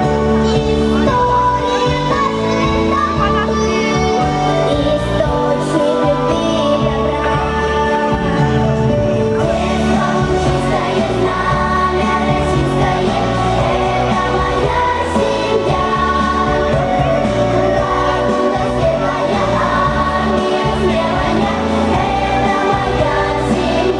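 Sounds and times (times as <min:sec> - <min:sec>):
instrumental backing music: 0:00.0 - 0:23.9
person singing: 0:00.0 - 0:23.9.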